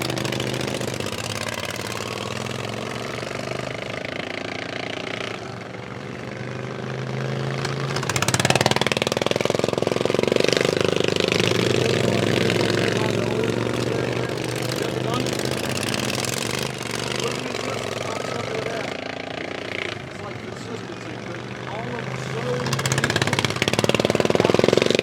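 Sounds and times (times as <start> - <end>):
racing lawn mower engines: 0.0 - 25.0.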